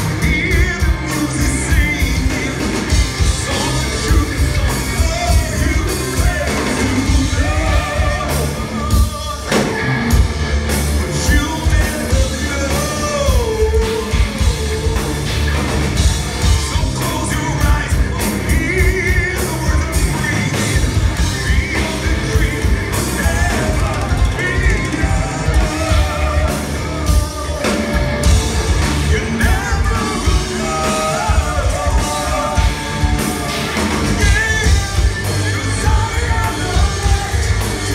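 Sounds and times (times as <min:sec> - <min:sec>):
man singing with vibrato: 0:00.0 - 0:10.2, 0:11.0 - 0:37.9
live metal band: 0:00.0 - 0:37.9.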